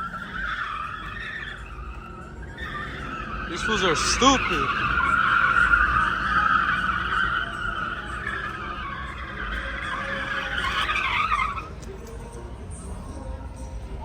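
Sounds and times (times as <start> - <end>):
car tyres squealing: 0.0 - 14.0.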